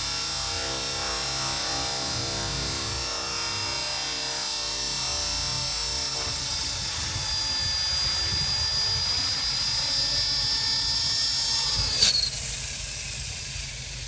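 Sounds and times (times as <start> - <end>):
model helicopter motor whine: 0.0 - 14.0
rotor noise: 0.0 - 14.0.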